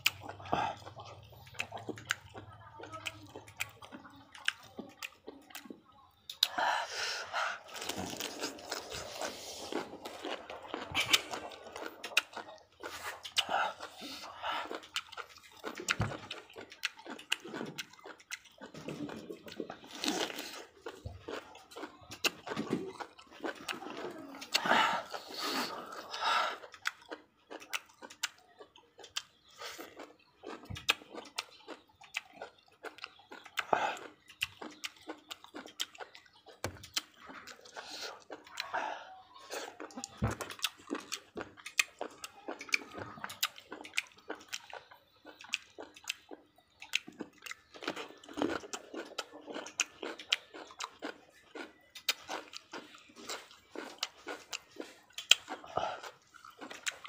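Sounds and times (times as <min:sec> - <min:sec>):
man chewing and crunching: 0:00.0 - 0:57.0.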